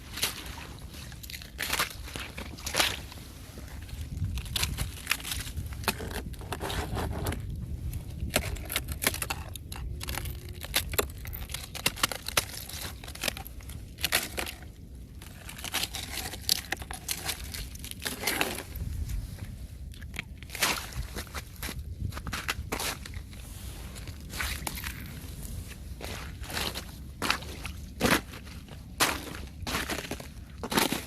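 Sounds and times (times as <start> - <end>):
ice crackling and crunching: 0.0 - 31.0.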